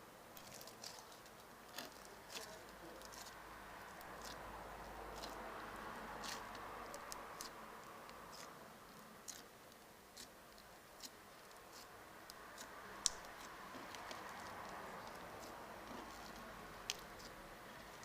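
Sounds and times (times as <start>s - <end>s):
faint road traffic: 0.0s - 18.0s
crunchy slime popping and crackling: 0.4s - 4.4s, 5.1s - 9.5s, 10.2s - 18.0s.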